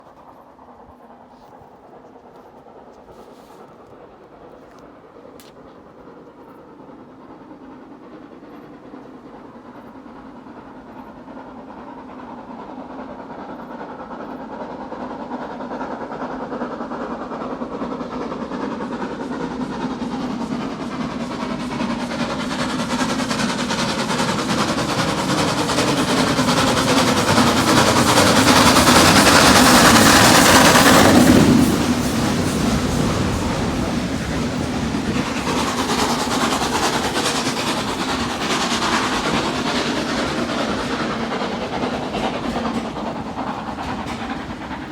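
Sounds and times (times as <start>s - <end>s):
clickety-clack of train wheels: 0.0s - 44.9s
steam locomotive exhaust: 1.1s - 44.9s.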